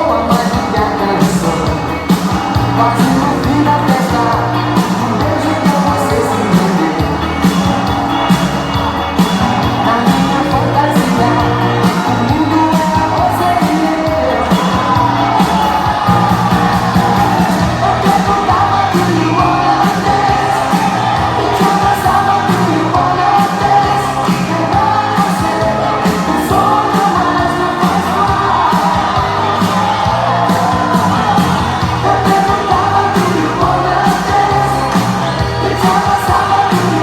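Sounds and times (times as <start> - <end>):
upbeat pop song with singing: 0.0 - 37.0.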